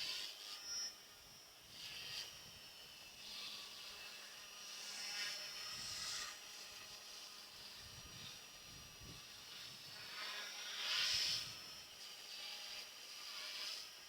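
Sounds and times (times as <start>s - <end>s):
rc helicopter rotor whine: 0.0s - 14.0s.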